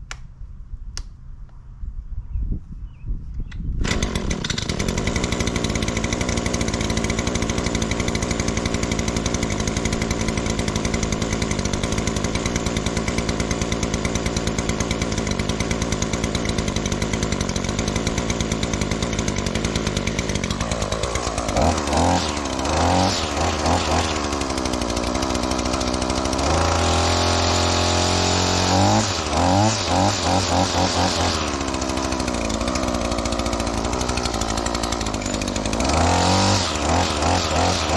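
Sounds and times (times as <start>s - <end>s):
string trimmer engine revving: 3.8s - 37.9s.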